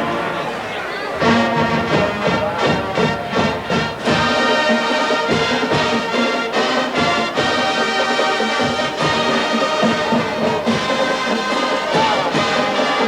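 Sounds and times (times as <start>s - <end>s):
marching band playing: 1.2s - 13.0s.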